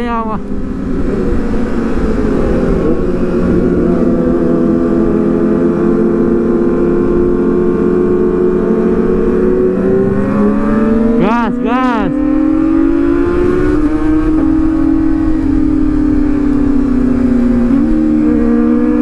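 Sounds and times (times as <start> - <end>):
wind or road noise rumble: 0.0 - 19.0
motorcycle engine at high revs: 0.4 - 19.0.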